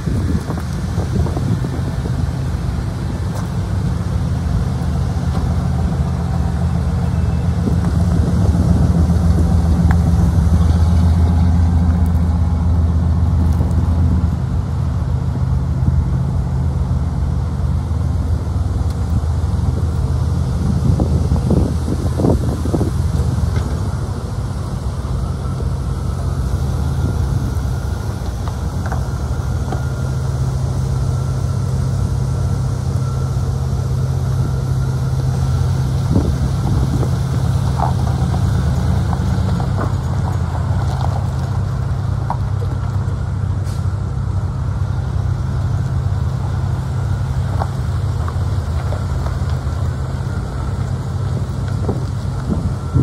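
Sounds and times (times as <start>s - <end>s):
truck engine running at low revs: 0.0s - 53.0s.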